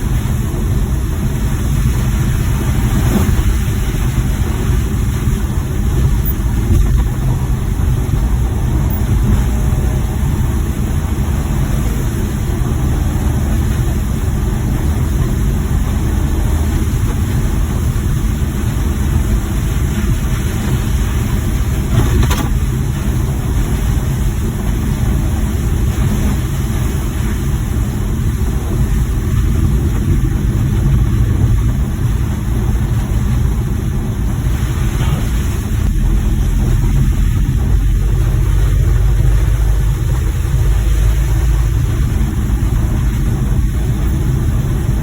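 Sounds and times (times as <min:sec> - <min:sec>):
van engine and road rumble: 0:00.0 - 0:45.0.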